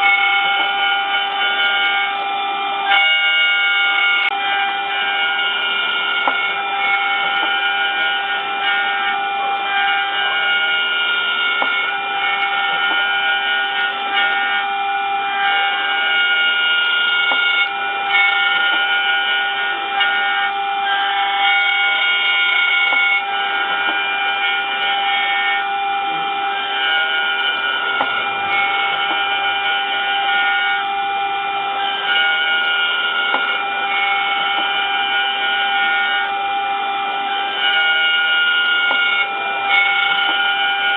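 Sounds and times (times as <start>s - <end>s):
cnc router whine: 0.0s - 40.9s.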